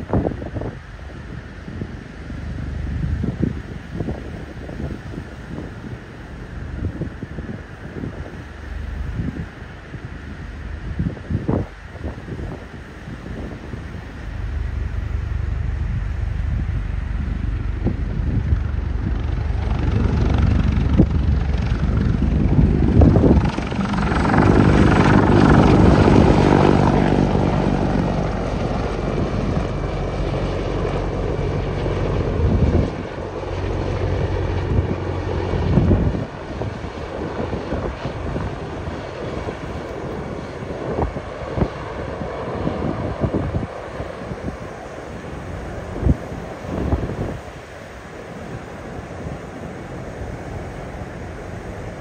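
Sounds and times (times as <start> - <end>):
helicopter engine noise: 0.0 - 52.0
helicopter rotor beat: 0.0 - 52.0.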